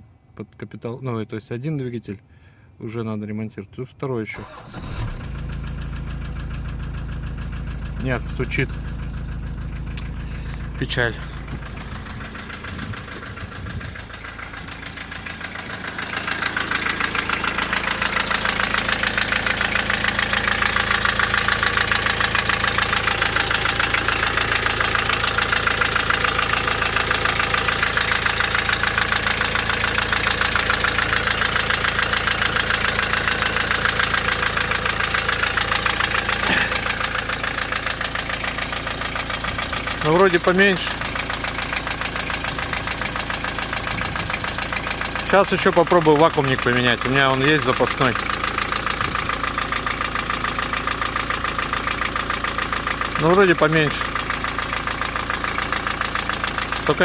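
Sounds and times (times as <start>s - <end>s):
diesel engine with rhythmic knock: 4.4s - 57.0s.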